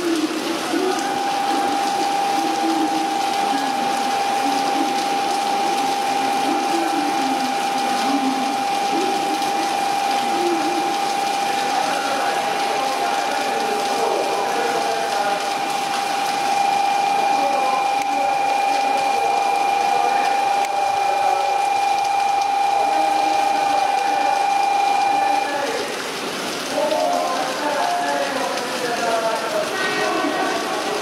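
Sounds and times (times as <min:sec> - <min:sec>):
continuous high-pitched tone: 0:00.0 - 0:29.0
steady rain falling: 0:00.0 - 0:31.0.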